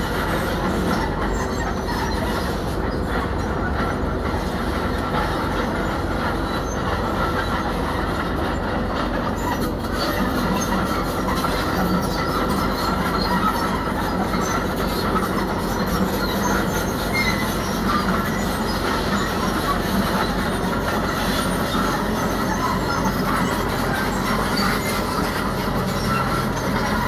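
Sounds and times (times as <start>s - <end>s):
diesel engine running: 0.0s - 27.0s
steel tracks clattering: 0.0s - 27.0s.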